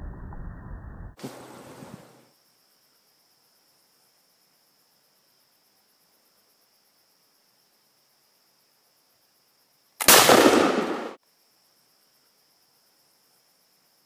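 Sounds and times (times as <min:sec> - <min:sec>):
crickets chirring: 0:01.2 - 0:14.0.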